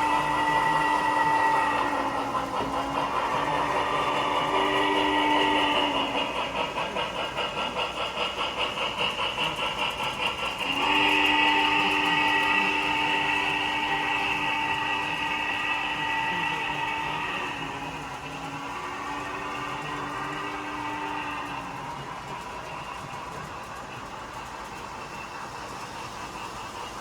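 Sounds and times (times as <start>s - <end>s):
model train locomotive sound: 0.0s - 27.0s.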